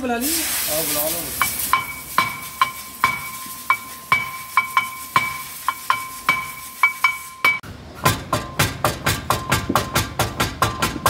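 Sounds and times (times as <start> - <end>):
hammer striking metal: 1.3 - 11.0.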